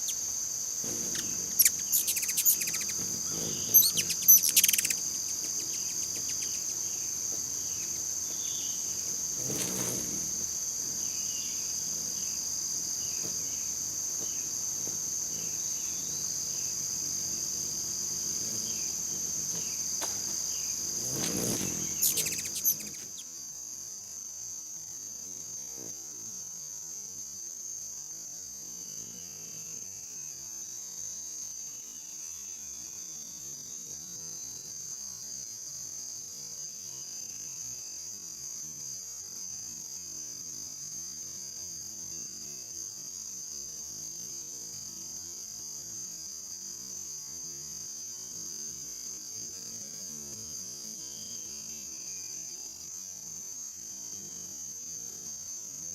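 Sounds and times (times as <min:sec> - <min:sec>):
crickets and insects trilling: 0:00.0 - 0:55.9.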